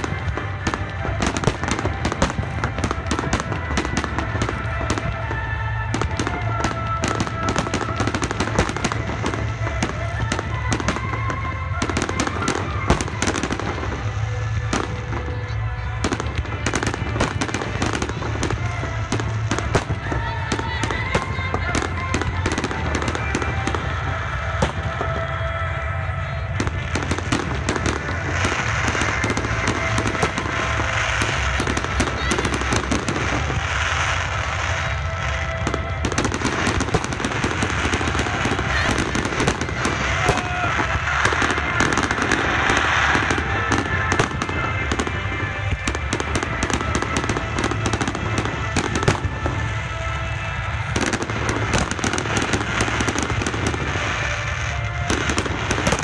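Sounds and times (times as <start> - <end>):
firework crackling: 0.0 - 56.0.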